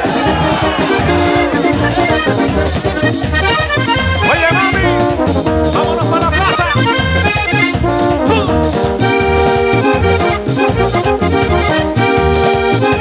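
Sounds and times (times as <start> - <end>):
bass beat and percussion: 0.0 - 13.0
button accordion playing fast runs: 0.0 - 13.0.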